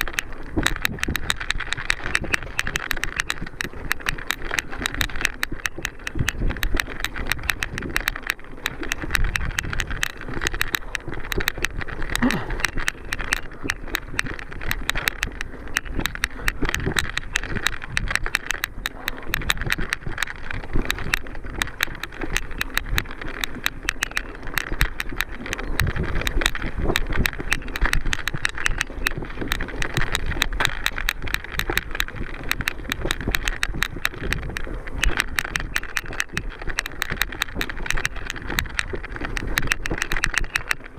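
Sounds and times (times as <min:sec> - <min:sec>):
mountain bike rattling on trail: 0:00.0 - 0:40.9.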